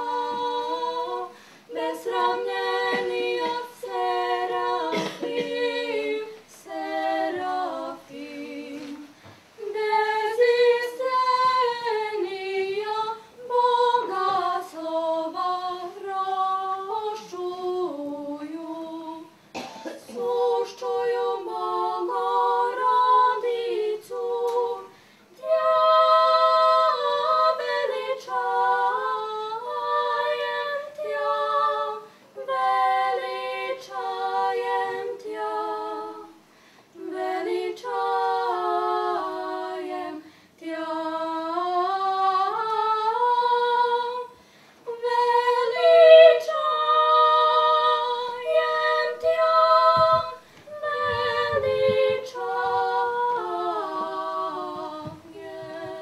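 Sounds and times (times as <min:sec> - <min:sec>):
two women singing: 0:00.0 - 0:56.0.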